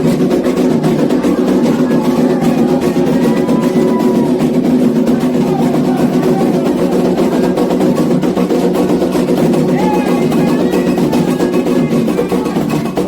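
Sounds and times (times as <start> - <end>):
hand drums playing rhythm: 0.0 - 13.0.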